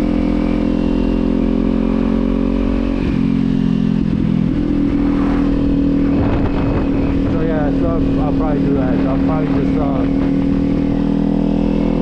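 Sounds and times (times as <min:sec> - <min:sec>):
motorcycle engine and exhaust: 0:00.0 - 0:12.0.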